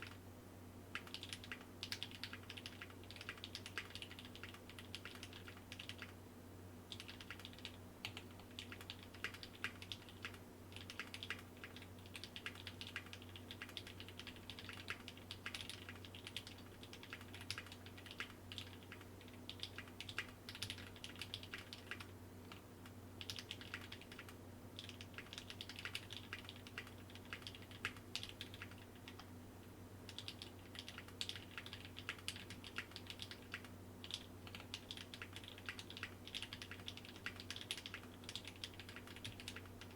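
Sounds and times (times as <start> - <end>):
faint steady hum: 0.0 - 39.9
mechanical keyboard typing: 0.9 - 6.2, 6.9 - 22.6, 23.2 - 29.3, 30.1 - 39.9.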